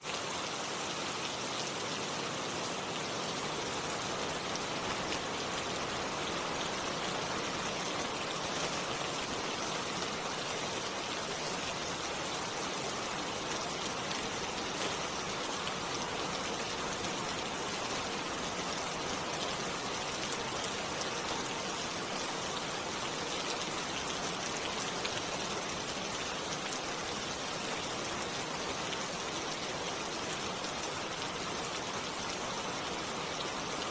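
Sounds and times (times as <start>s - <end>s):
rain falling on leaves: 0.0s - 33.9s.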